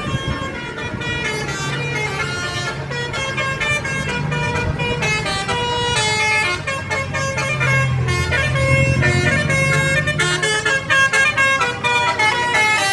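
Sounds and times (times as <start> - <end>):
bus engine hum: 0.0 - 12.9
musical bus horn melody: 0.0 - 12.9.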